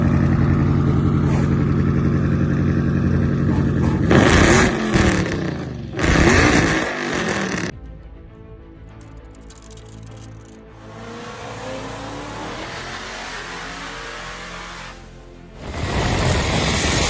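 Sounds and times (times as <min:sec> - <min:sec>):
car engine idling and revving: 0:00.0 - 0:07.8, 0:08.9 - 0:17.0.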